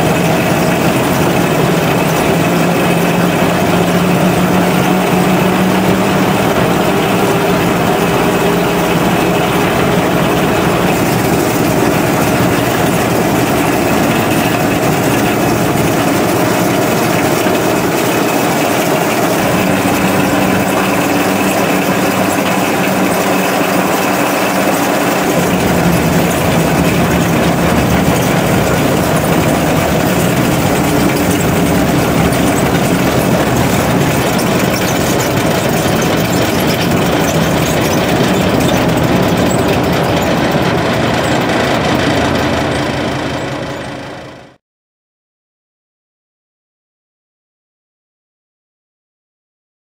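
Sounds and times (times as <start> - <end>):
rail running noise: 0.0 - 44.2
diesel engine running: 0.0 - 44.6.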